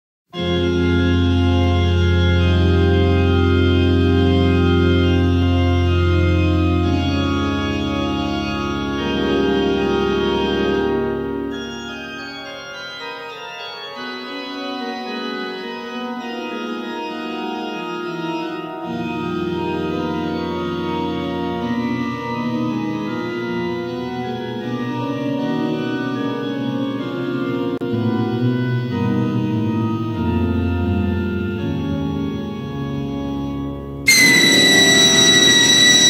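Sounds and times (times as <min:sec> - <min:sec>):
organ playing slow chords: 0:00.4 - 0:36.0.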